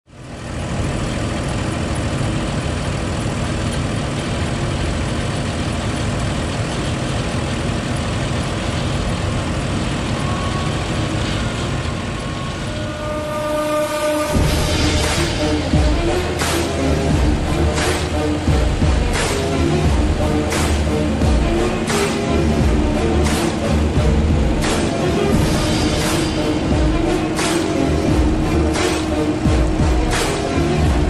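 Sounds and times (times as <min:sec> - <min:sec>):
tractor engine running: 0:00.1 - 0:31.0
steady tones: 0:00.2 - 0:31.0.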